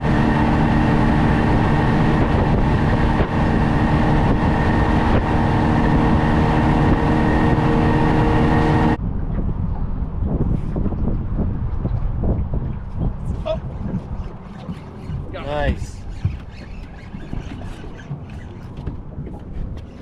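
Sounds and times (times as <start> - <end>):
outboard motor running: 0.0 - 9.0, 10.6 - 20.0
rushing wind and water: 0.0 - 20.0.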